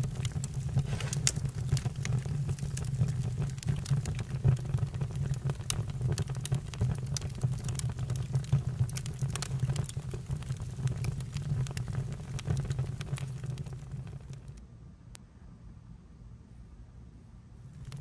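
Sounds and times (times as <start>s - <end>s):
campfire crackling: 0.0s - 14.6s, 17.8s - 18.0s.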